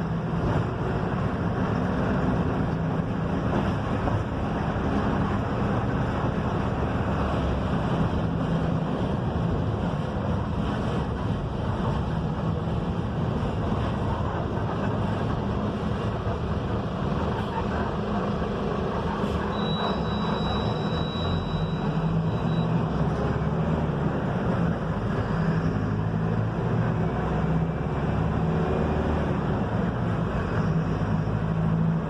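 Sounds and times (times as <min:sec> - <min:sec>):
bus diesel engine running: 0:00.0 - 0:32.0
road and wind noise: 0:00.0 - 0:32.0.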